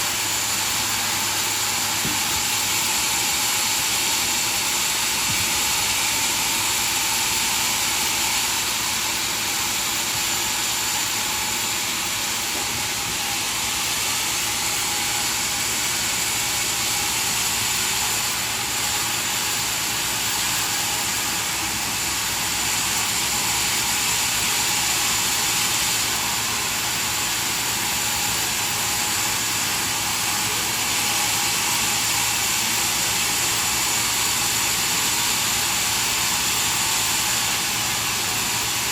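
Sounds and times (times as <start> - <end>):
saw cutting through wood: 0.0 - 38.9.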